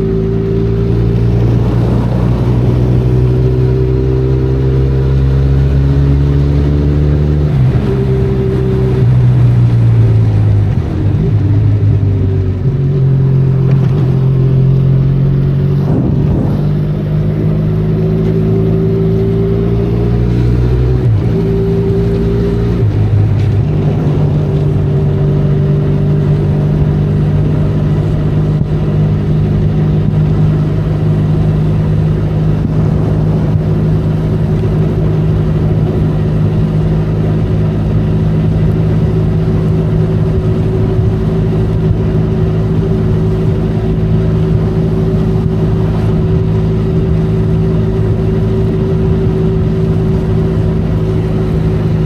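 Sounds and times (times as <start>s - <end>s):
motorcycle engine shifting gears: 0.0s - 52.0s.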